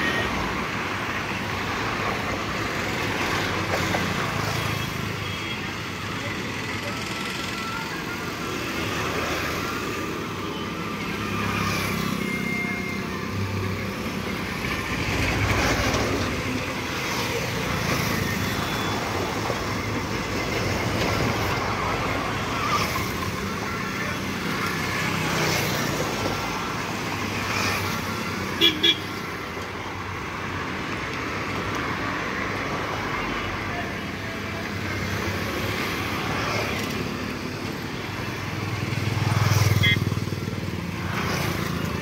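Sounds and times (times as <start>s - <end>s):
motorcycle and rickshaw engines passing: 2.5s - 28.6s, 33.8s - 42.0s.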